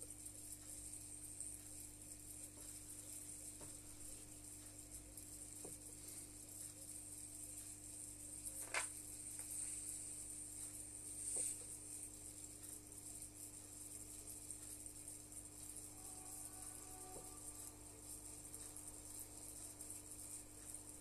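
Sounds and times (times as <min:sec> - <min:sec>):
aquarium pump hum and hiss: 0:00.0 - 0:21.0.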